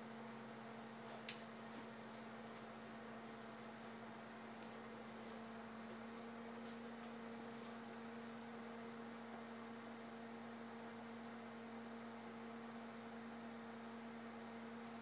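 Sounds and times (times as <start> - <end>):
electric pottery wheel humming: 0.0 - 15.0.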